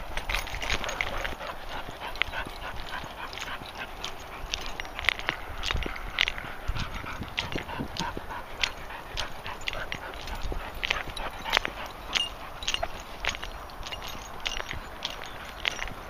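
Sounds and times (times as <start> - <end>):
dogs moving through grass: 0.0 - 16.0.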